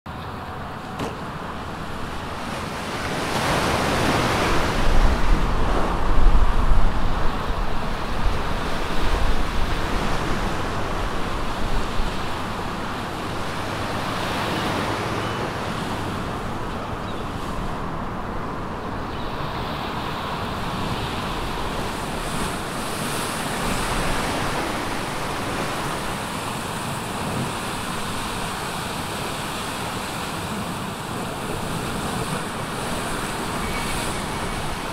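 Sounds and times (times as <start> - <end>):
sea waves washing: 0.1 - 34.9
wind on microphone: 1.7 - 34.9.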